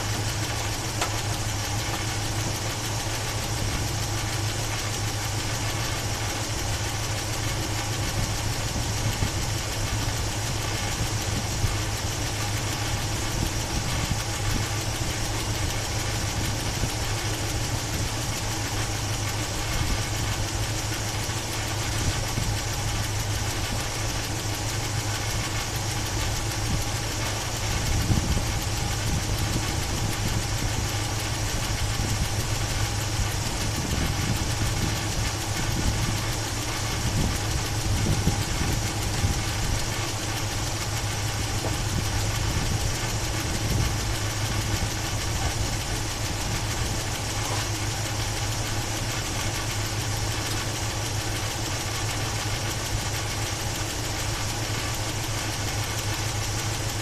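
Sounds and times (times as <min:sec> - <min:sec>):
engine idling roughly: 0:00.0 - 0:57.0.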